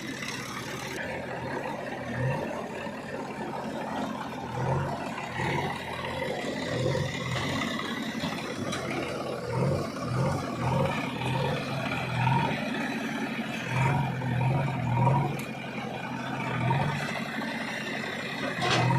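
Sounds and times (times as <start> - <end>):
heavy diesel engine droning: 0.0 - 18.9.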